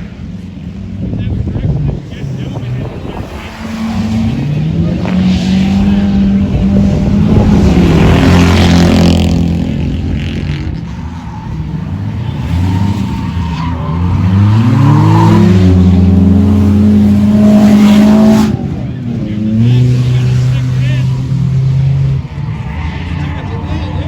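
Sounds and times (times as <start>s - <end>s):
race car engines passing: 0.0s - 24.0s
engine revving up: 1.2s - 24.0s.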